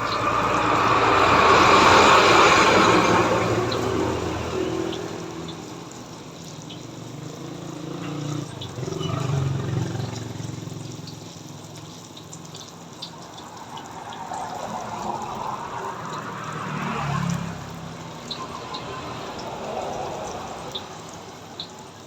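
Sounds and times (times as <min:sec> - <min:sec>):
food sizzling in hot oil: 0:00.0 - 0:22.0
oil popping: 0:00.0 - 0:22.0.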